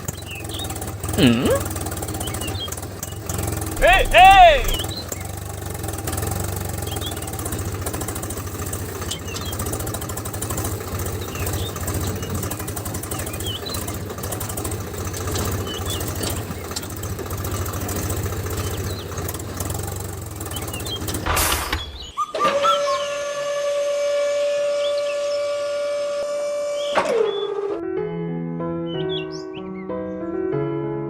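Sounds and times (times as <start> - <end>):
small tractor engine pulsing: 0.0 - 27.5.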